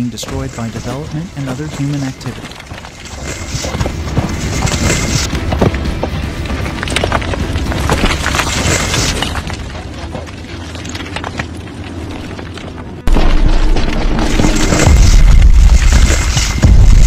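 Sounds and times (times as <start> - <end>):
heavy low rumble: 0.0 - 17.0.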